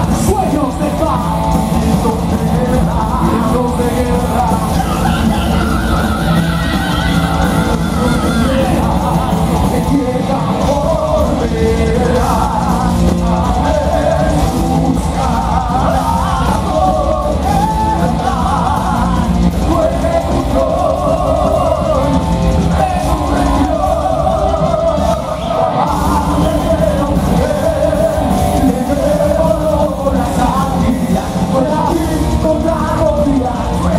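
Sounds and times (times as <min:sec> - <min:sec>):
heavy metal band playing: 0:00.0 - 0:33.9
people singing into microphones: 0:00.0 - 0:33.9.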